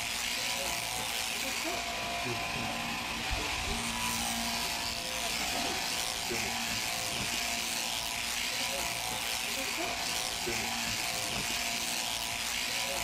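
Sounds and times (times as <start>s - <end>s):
electric shears buzzing: 0.0s - 13.0s.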